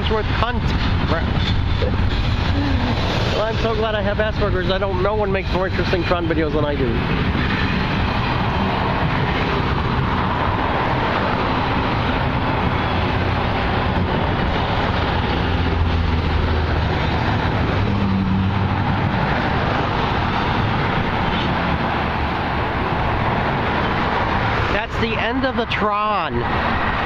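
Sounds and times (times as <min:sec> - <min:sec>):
freight train cars rolling: 0:00.0 - 0:25.9.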